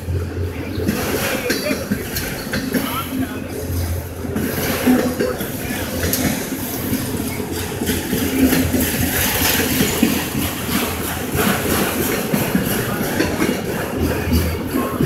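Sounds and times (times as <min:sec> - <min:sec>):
freight cars clacking and rattling: 0:00.0 - 0:15.0
steel wheels rolling on rail: 0:00.0 - 0:15.0.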